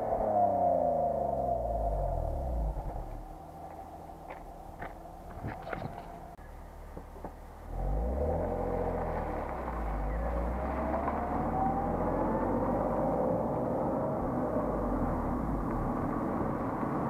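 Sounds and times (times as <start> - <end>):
car engine through exhaust: 0.0 - 17.0.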